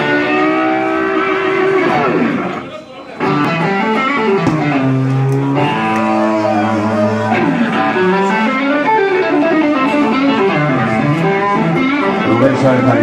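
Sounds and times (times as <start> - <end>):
electric guitar sliding notes: 0.0 - 13.0.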